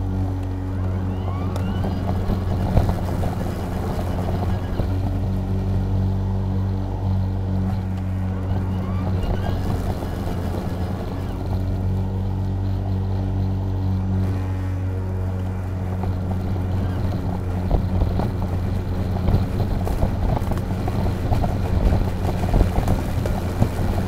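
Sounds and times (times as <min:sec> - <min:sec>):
electric lawn mower humming: 0:00.0 - 0:24.0
crackles and knocks: 0:00.2 - 0:06.1, 0:07.0 - 0:24.0.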